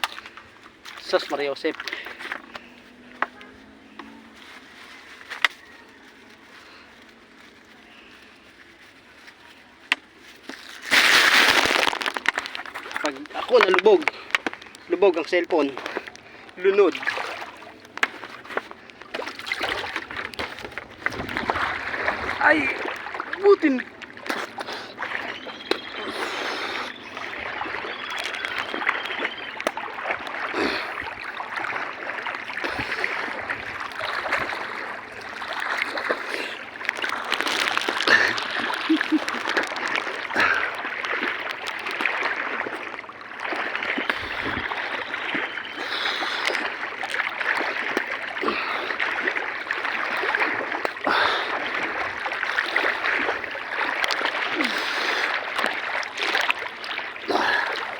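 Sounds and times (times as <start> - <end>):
flowing water: 0.0 - 57.9
small water splashes: 0.0 - 57.9.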